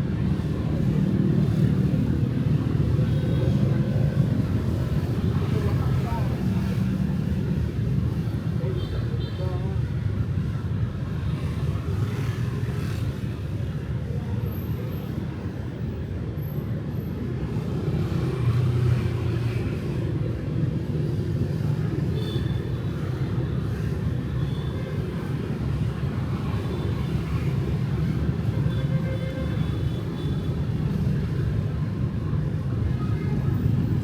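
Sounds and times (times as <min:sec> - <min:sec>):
motorbikes and cars passing: 0:00.0 - 0:34.0.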